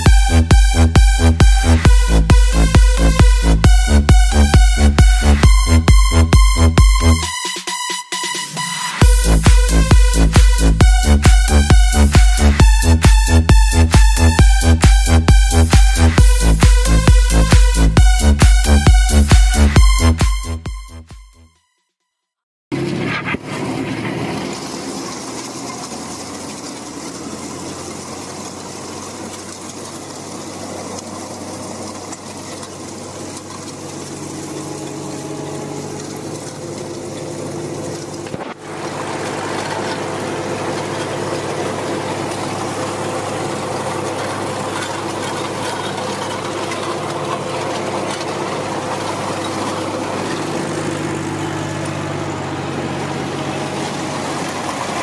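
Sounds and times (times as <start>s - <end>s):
tractor diesel engine running: 0.0s - 21.4s, 22.7s - 55.0s.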